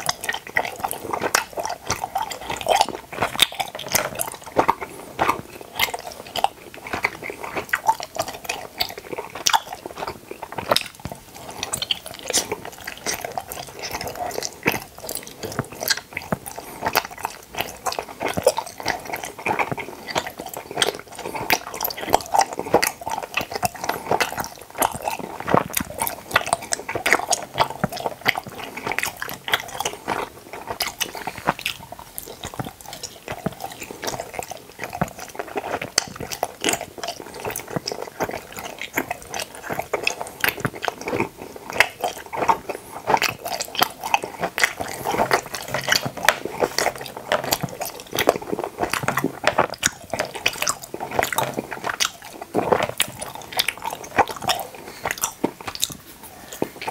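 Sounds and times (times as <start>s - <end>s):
chewing gummy candies: 0.0s - 56.9s.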